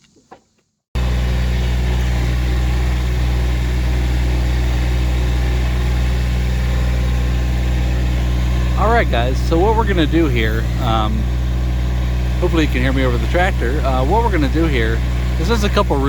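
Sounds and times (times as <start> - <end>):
tractor diesel engine running: 1.0 - 16.0.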